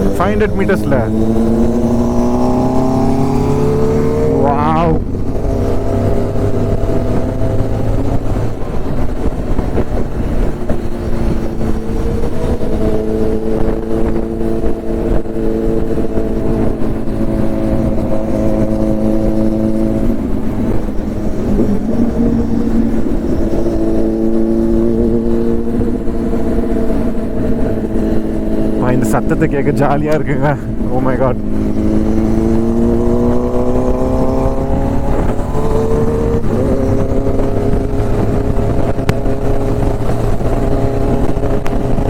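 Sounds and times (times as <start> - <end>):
motorcycle engine cruising: 0.0 - 42.0
wind rush: 0.0 - 42.0.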